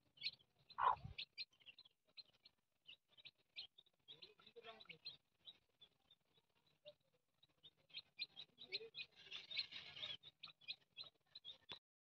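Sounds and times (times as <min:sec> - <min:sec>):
chicks peeping: 0:00.1 - 0:06.8, 0:07.4 - 0:11.8.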